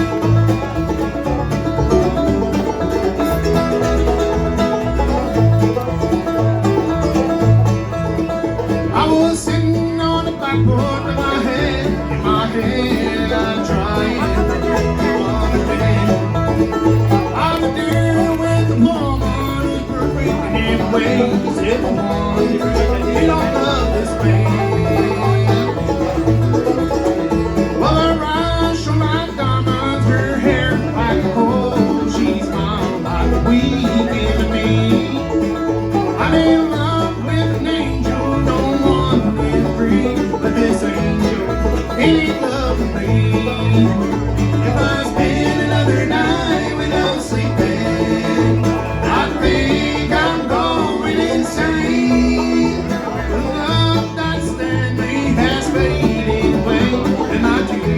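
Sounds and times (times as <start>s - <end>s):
banjo: 0.0s - 57.9s
bass line: 0.0s - 57.9s
guitar: 0.0s - 57.9s.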